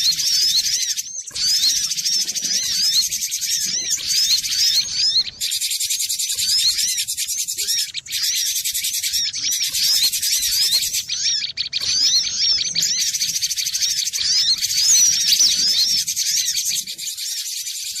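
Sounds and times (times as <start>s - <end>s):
bird singing high quick chirps: 0.0s - 18.0s.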